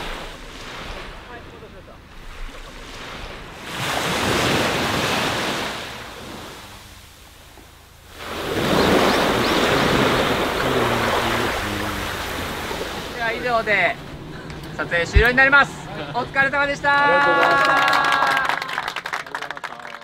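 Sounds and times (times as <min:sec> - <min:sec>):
sea waves washing onto beach: 0:00.0 - 0:18.5.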